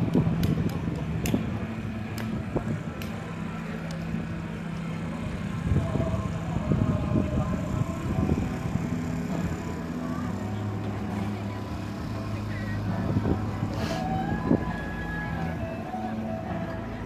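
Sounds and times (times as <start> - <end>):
small vehicle engine hum: 0.0 - 17.0.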